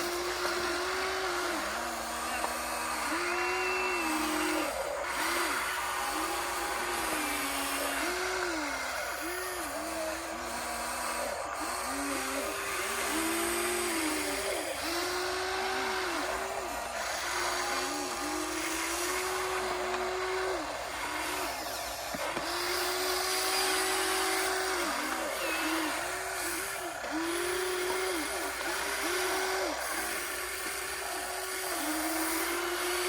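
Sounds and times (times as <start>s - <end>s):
toy excavator motors whining: 0.0s - 33.0s.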